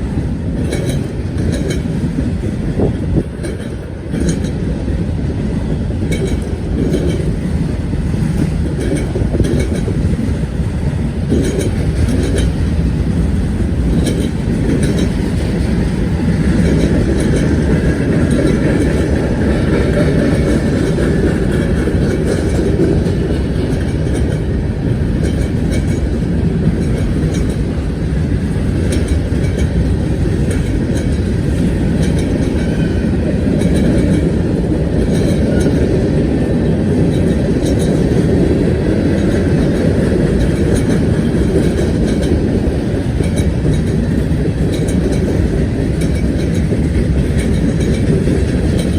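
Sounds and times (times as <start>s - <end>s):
train wheels rumbling on track: 0.0s - 48.9s
wheels clicking over rail joints: 0.1s - 48.9s.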